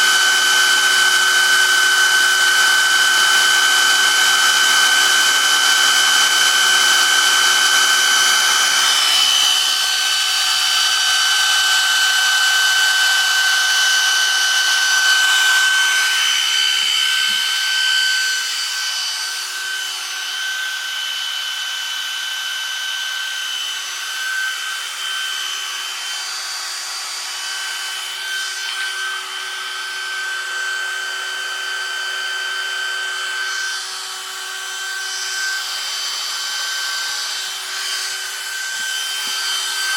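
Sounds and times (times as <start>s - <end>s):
rasping cutting noise: 0.0s - 22.1s, 22.8s - 39.9s
router spindle whine: 0.0s - 39.9s.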